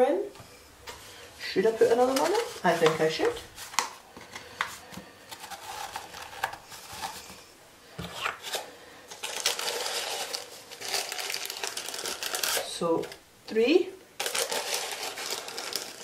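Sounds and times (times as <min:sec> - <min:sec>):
paper funnel rustling: 0:01.0 - 0:13.2, 0:14.2 - 0:16.0.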